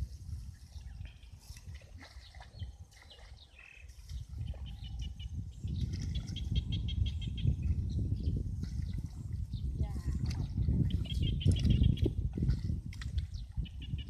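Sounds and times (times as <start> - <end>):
small birds chirping: 0.6 - 12.2.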